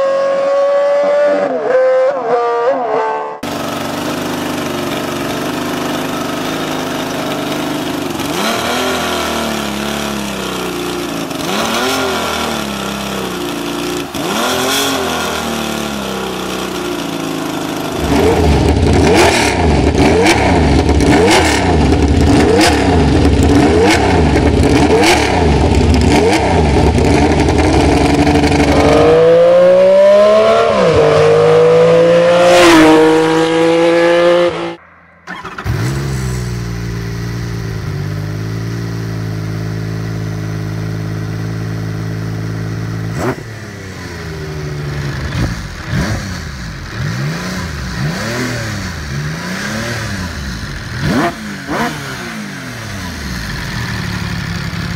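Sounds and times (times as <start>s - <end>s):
motorcycle accelerating with upshifts: 0.0s - 54.9s
motorcycle engine revving: 0.0s - 54.9s.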